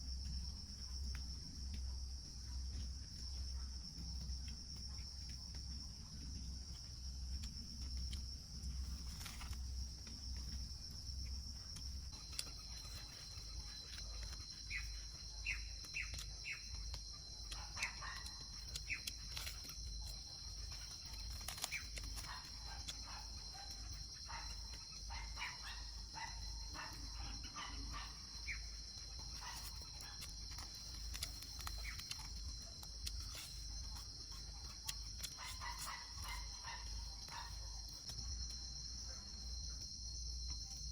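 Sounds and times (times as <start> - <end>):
high insect drone: 0.0 - 40.9
thin insect tone: 0.0 - 40.9.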